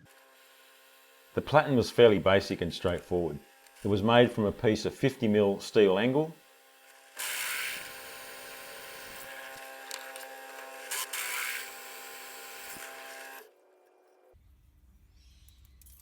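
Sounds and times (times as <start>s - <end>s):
electric power tool motor: 0.0s - 14.3s.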